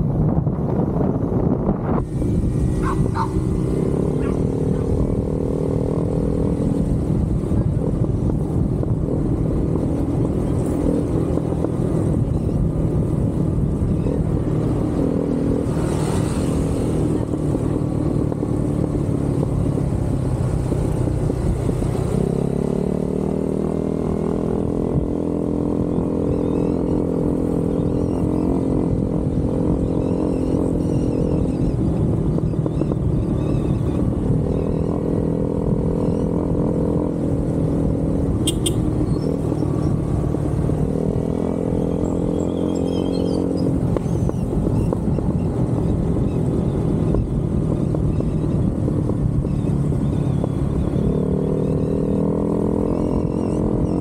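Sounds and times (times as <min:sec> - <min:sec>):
motorcycle engine running: 0:00.0 - 0:54.0
wind rush over microphone: 0:00.0 - 0:54.0.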